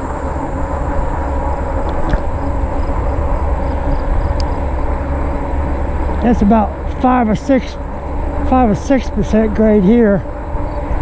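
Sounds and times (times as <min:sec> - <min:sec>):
fat tires rolling on asphalt: 0:00.0 - 0:11.0
wind rumbling on microphone: 0:00.0 - 0:11.0.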